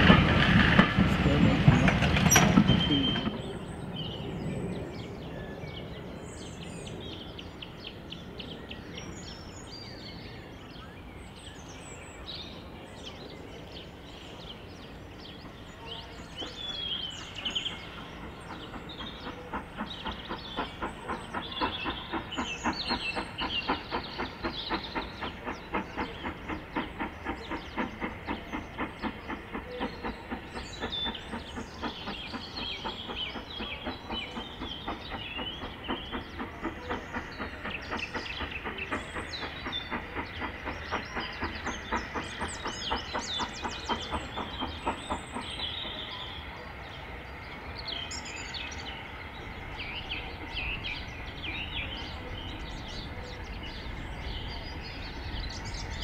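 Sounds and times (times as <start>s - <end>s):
steam locomotive chuffing: 0.0s - 10.8s, 11.5s - 56.0s
birds chirping: 0.0s - 56.0s.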